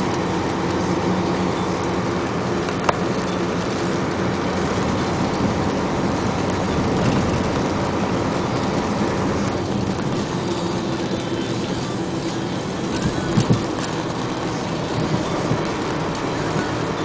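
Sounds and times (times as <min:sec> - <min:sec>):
tyre noise on wet road: 0:00.0 - 0:17.0
vehicle engine hum: 0:00.0 - 0:17.0.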